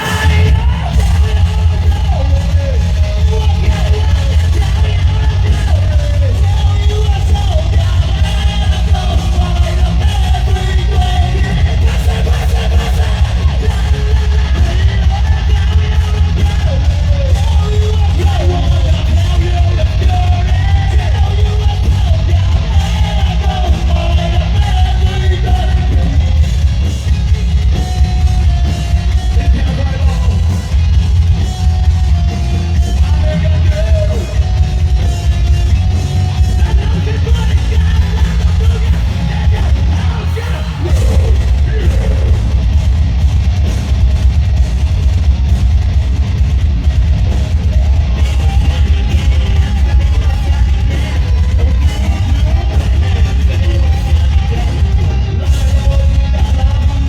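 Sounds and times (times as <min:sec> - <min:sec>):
singing and yelled vocals: 0:00.0 - 0:44.1, 0:46.2 - 0:57.0
live heavy rock band playing: 0:00.0 - 0:57.0
pounding bass: 0:00.0 - 0:57.0.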